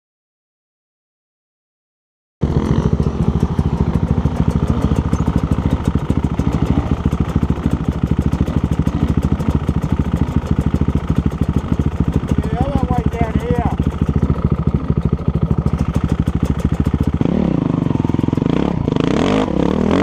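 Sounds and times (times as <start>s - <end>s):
dirt bike engine idling: 2.4s - 20.0s.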